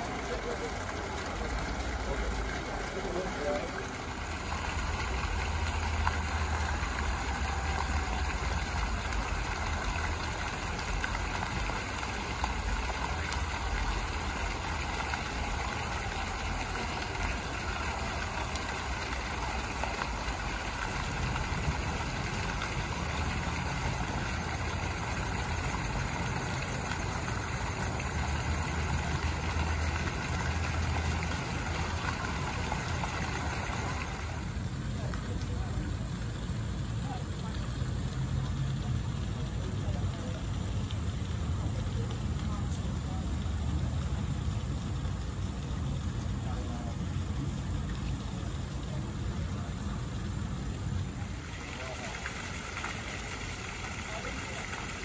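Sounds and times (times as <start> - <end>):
fountain jets splashing into pool: 0.0 - 55.0.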